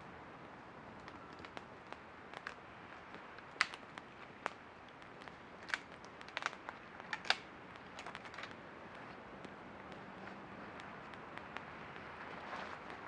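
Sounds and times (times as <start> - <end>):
faint steady fire hiss: 0.0 - 13.0
campfire crackling and popping: 0.4 - 13.0.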